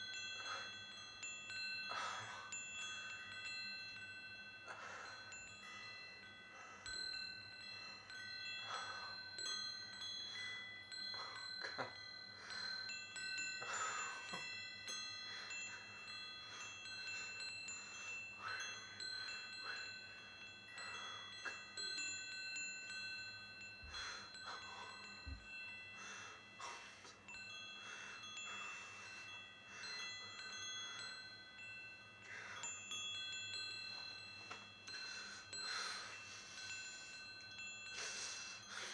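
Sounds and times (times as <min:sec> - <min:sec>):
chimes ringing softly: 0:00.0 - 0:38.9.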